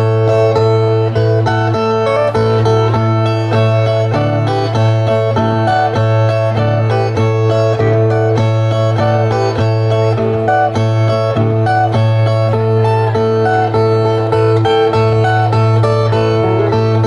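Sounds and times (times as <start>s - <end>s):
plucked string instruments: 0.0s - 17.0s.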